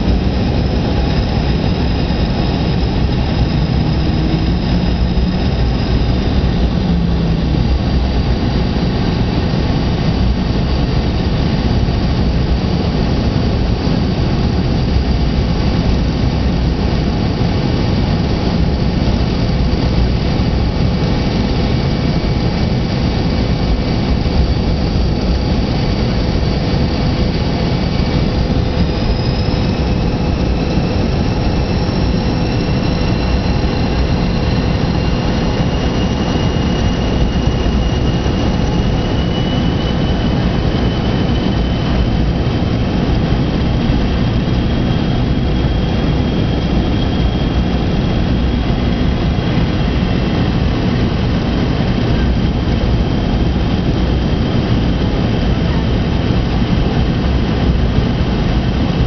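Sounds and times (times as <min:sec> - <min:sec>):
airflow past fuselage: 0:00.0 - 0:59.0
airliner engines roaring: 0:00.0 - 0:59.0
thin steady whine: 0:00.0 - 0:59.0.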